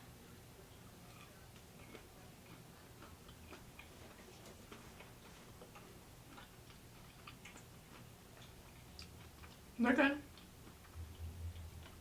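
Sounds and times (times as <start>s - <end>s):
crunchy chewing: 0.7s - 12.0s.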